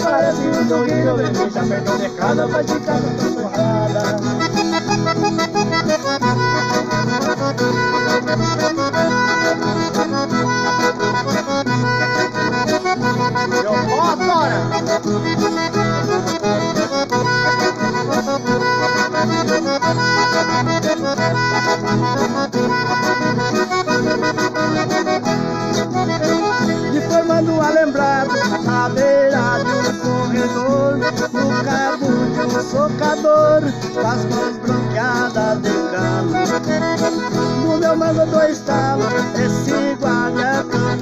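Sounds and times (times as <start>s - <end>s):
acoustic guitars strumming: 0.0s - 41.0s
piano accordion melody: 0.0s - 41.0s.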